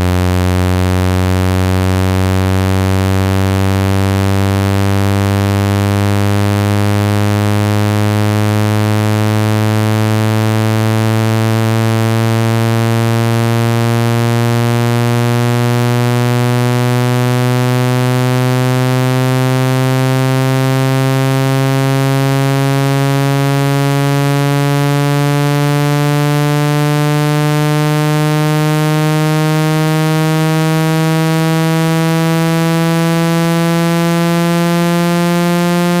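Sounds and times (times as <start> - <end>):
loud buzzy low tone rising: 0.0 - 36.0.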